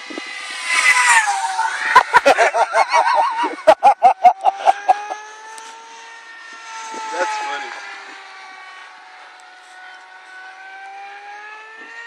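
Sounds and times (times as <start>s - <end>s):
model plane electric motor whining: 0.0s - 3.5s, 4.4s - 12.0s.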